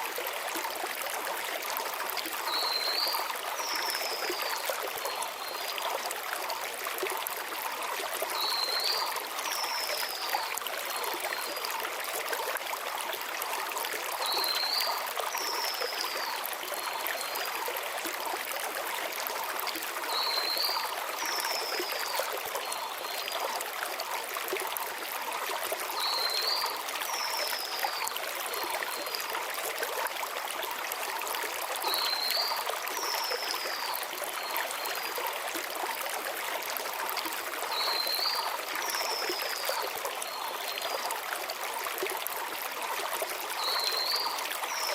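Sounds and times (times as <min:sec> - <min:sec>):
stream flowing over stones: 0:00.0 - 0:44.9.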